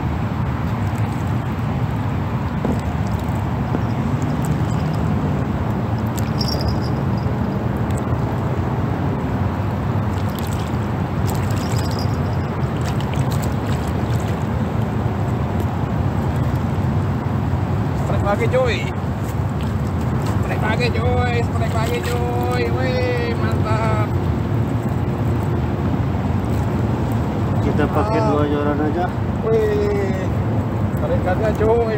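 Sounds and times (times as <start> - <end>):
low outdoor rumble: 0.0 - 31.9.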